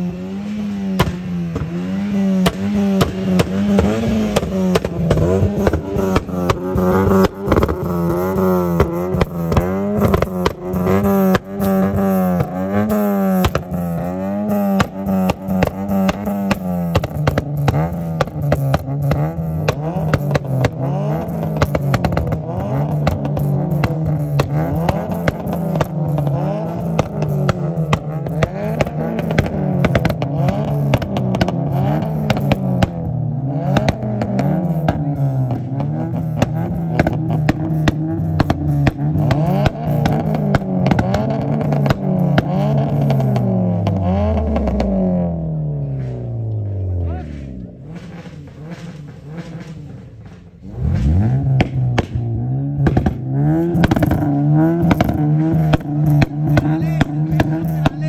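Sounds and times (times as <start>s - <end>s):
car engine revving: 0.0s - 58.0s
exhaust pops: 0.6s - 58.0s.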